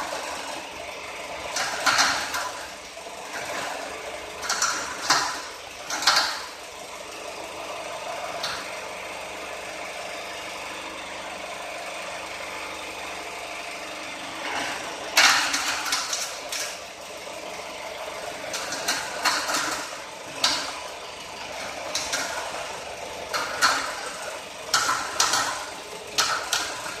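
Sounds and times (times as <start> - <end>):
peeling machine running: 0.0 - 27.0.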